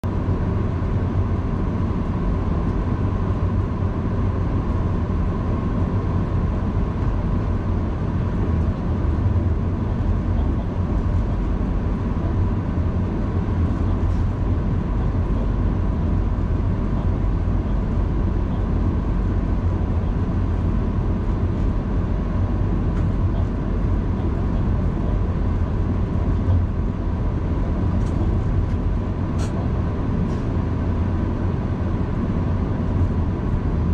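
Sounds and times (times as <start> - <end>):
locomotive rumble: 0.0 - 33.9.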